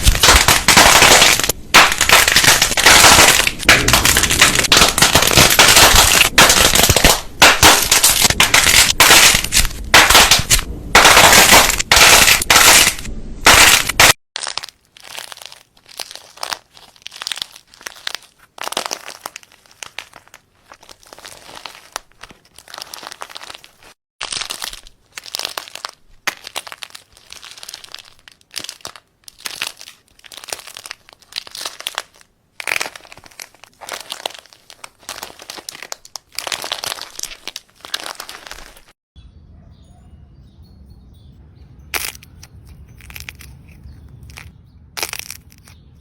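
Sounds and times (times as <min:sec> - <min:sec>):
crunchy material crackling: 0:00.0 - 0:39.0, 0:41.9 - 0:45.8.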